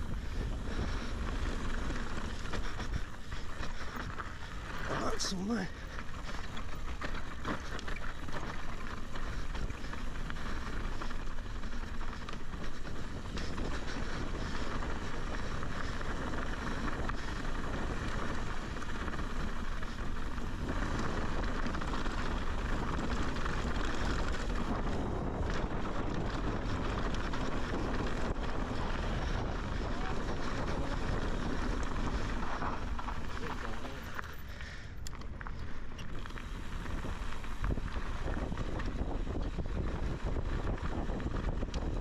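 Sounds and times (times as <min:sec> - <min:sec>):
bike clicks and rattles: 0:00.0 - 0:42.0
tyres crunching on rocky dirt: 0:00.0 - 0:42.0
wind buffeting microphone: 0:00.0 - 0:42.0.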